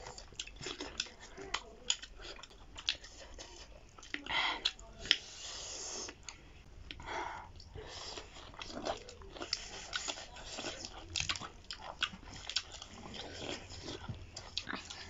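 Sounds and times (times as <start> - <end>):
chewing and lip smacking: 0.0 - 15.0.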